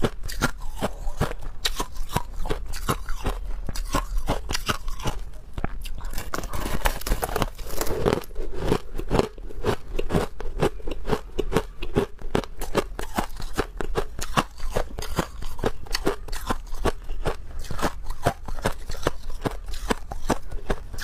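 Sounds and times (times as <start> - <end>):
crunching ice being chewed: 0.0 - 21.0.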